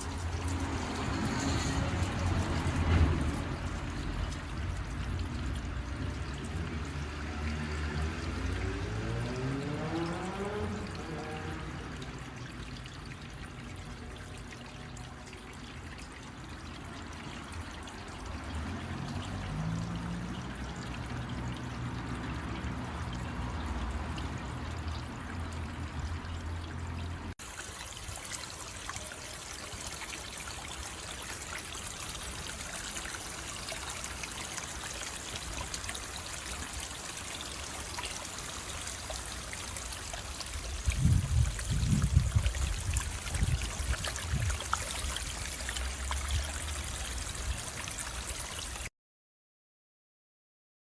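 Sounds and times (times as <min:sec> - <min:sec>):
water trickling down waterfall: 0:00.0 - 0:48.9.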